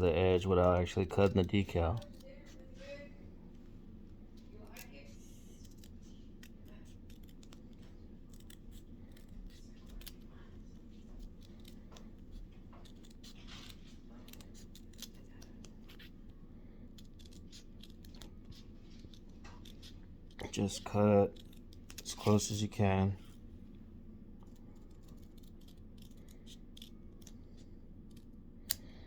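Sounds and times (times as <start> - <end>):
scissors snipping: 0.3 - 3.0, 4.6 - 23.4, 24.4 - 29.0.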